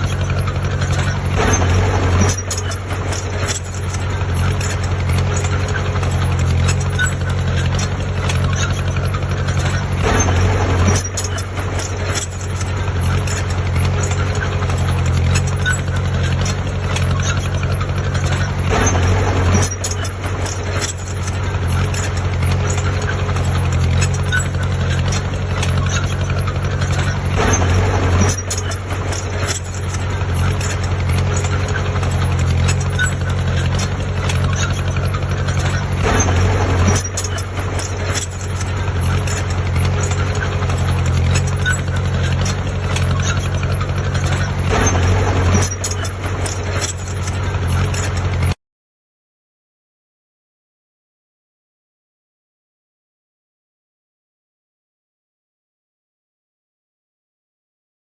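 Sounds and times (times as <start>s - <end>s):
heavy machinery diesel engine: 0.0s - 48.6s.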